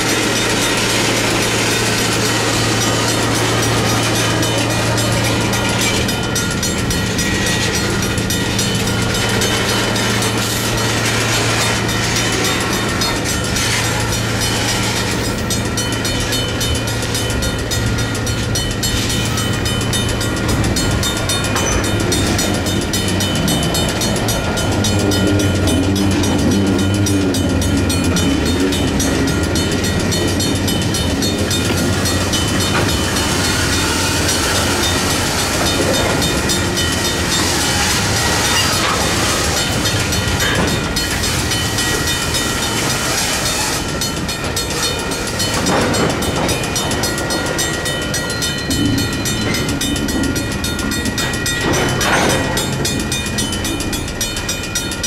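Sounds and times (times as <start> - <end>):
diesel locomotive engine drone: 0.0 - 55.0
rumble of moving train: 0.0 - 55.0.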